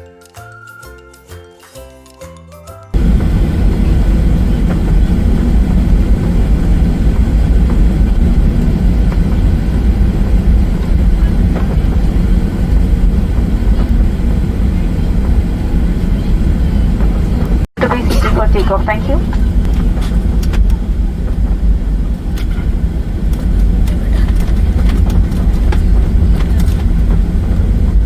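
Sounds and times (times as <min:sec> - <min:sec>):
jet engine cabin rumble: 0:03.0 - 0:28.0.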